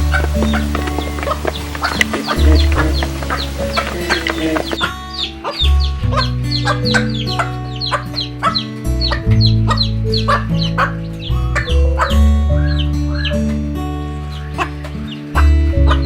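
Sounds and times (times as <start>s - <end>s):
chickens clucking: 0.0s - 13.5s
background music low notes: 0.0s - 16.0s.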